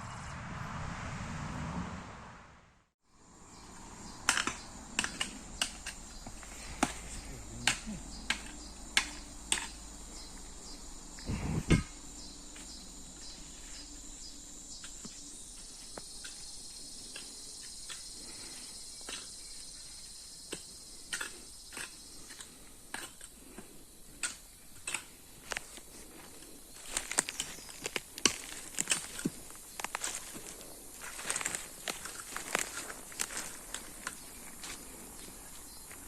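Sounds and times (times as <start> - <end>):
insects chirring: 3.1 - 36.0.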